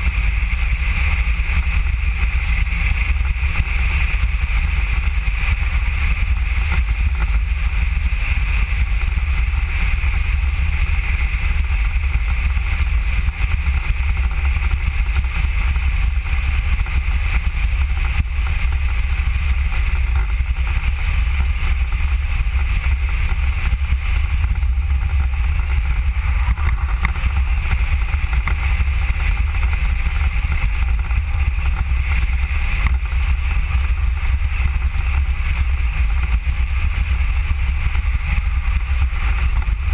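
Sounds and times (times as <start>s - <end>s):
velomobile rolling on road: 0.0s - 39.9s.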